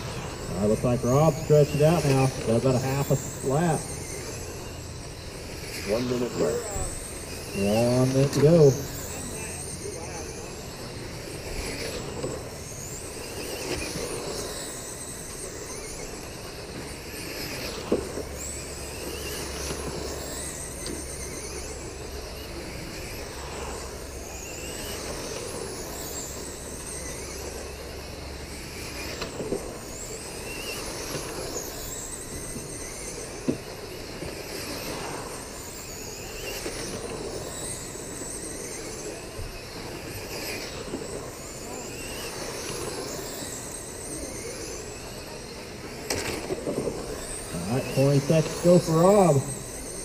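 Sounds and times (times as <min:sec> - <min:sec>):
radio-controlled cars whining: 0:00.0 - 0:50.0.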